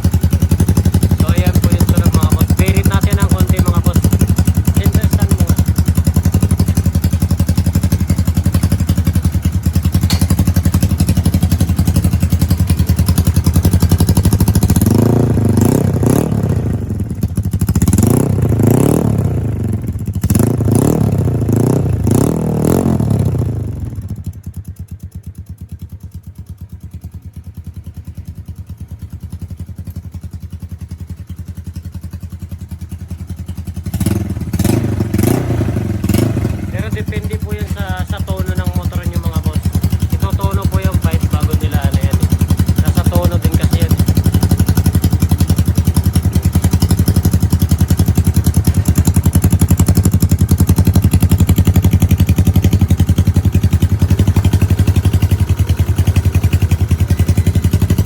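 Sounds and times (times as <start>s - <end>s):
scooter engine revving: 0.0s - 24.8s, 30.8s - 58.0s.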